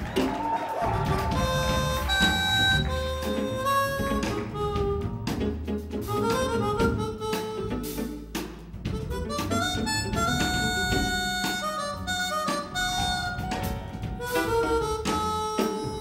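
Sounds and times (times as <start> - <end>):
drum and cymbal hits: 0.0 - 16.0
jazz band playing: 0.0 - 16.0
harmonica jazz solo: 0.8 - 16.0.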